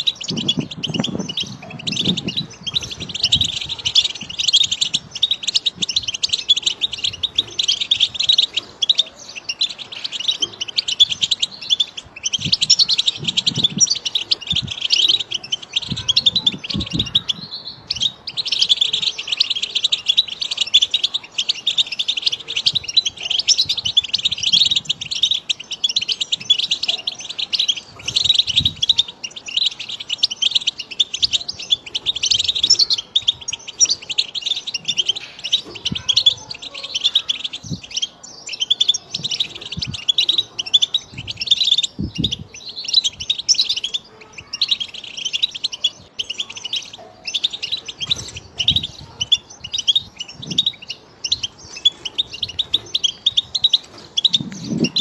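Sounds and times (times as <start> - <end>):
goldfinch twittering song: 0.0 - 55.0.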